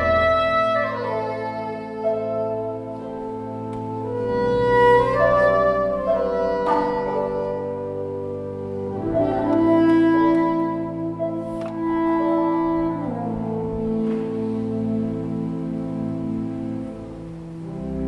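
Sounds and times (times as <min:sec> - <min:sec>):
orchestra playing sustained chords: 0:00.0 - 0:18.0.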